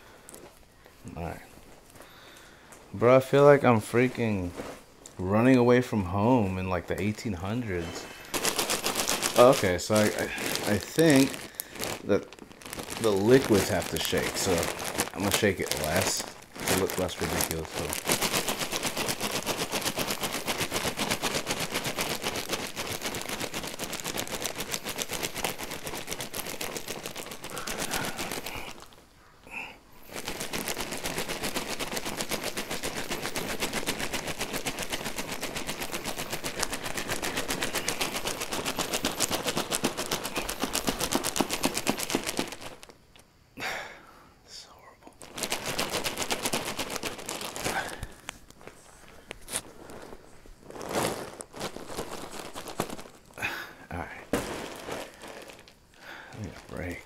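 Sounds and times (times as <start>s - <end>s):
bag of ice rattling: 2.1s - 43.0s, 45.2s - 57.0s.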